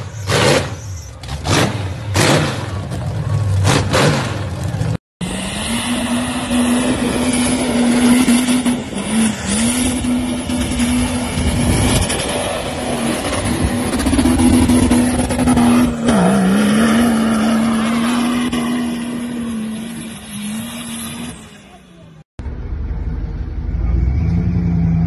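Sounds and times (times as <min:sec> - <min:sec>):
suv engine at high revs: 0:00.0 - 0:03.0, 0:03.6 - 0:21.8.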